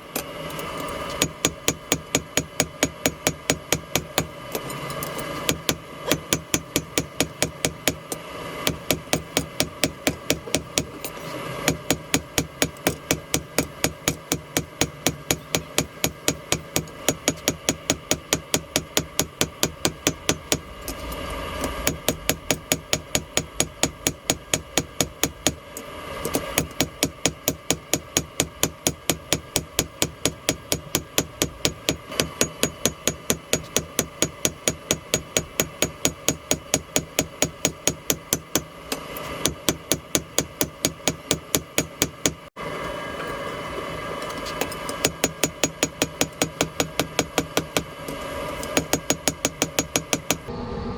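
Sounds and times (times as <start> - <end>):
hammer striking metal on anvil: 0.6 - 21.0, 21.7 - 25.6, 26.2 - 42.5, 44.8 - 48.0, 48.6 - 50.5.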